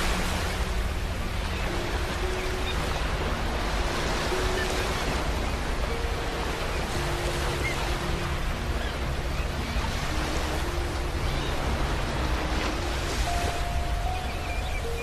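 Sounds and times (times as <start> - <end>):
ocean surf washing: 0.0 - 15.0
slow sustained music notes: 0.0 - 15.0.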